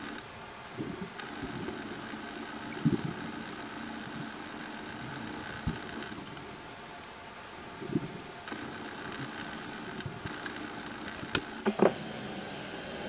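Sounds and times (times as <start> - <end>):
underwater engine-like hum: 0.0 - 13.0.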